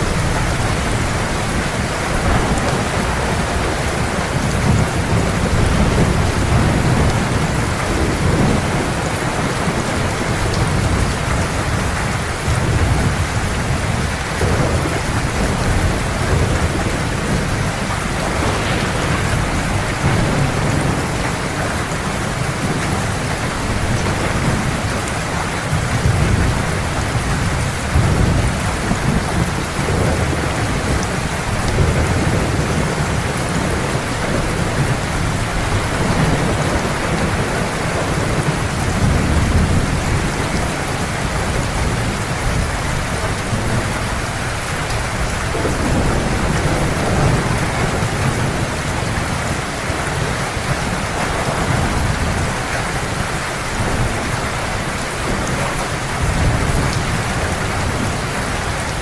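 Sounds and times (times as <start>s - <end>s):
heavy rain falling: 0.0s - 59.0s
low rolling thunder: 0.0s - 59.0s.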